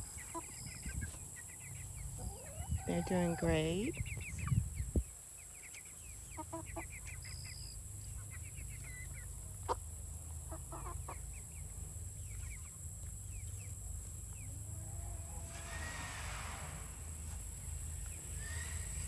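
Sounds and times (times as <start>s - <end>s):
chickens clucking: 0.0s - 19.0s
chicks chirping: 0.0s - 19.0s.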